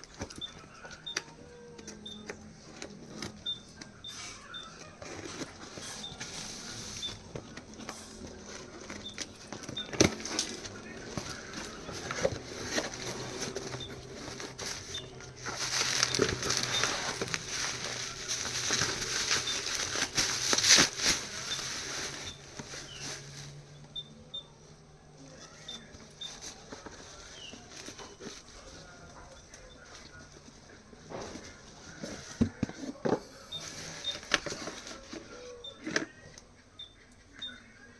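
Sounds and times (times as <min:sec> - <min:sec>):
packaging rustling: 0:00.0 - 0:24.0, 0:25.3 - 0:36.1.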